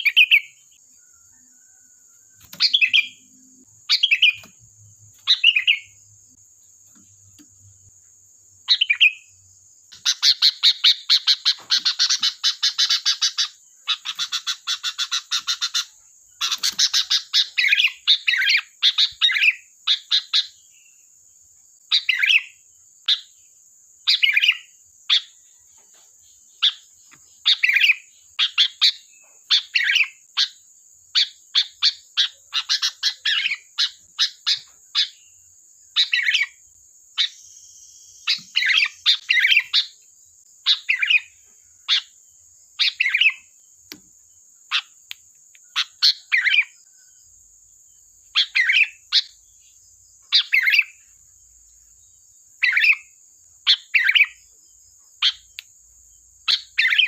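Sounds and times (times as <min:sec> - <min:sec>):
bird calling and chattering: 0:00.0 - 0:01.8, 0:02.4 - 0:06.1, 0:08.6 - 0:20.8, 0:21.9 - 0:23.4, 0:24.0 - 0:25.4, 0:26.6 - 0:47.0, 0:48.3 - 0:51.2, 0:52.5 - 0:54.4, 0:55.2 - 0:55.8, 0:56.4 - 0:57.0.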